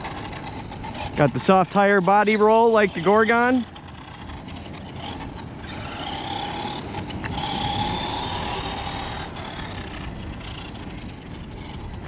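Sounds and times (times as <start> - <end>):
rc truck motor whining: 0.0 - 12.0.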